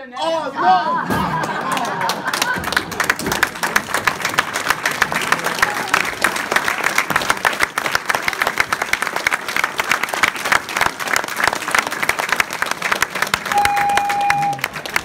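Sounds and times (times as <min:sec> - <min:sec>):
audience applauding: 0:01.2 - 0:15.0.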